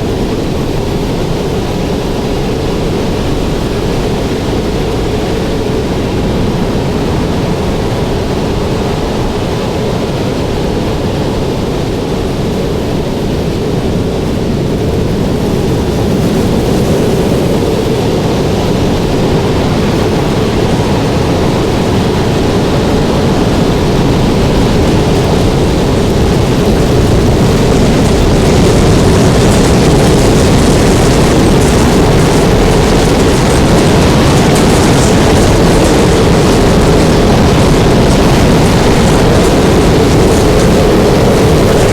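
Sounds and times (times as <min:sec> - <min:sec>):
strong wind roaring: 0:00.0 - 0:41.9.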